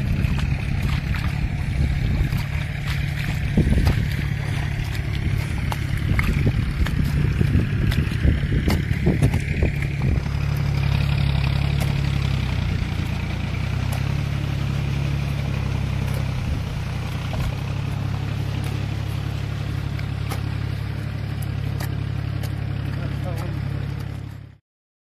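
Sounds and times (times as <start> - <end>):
engine humming steadily: 0.0 - 24.6.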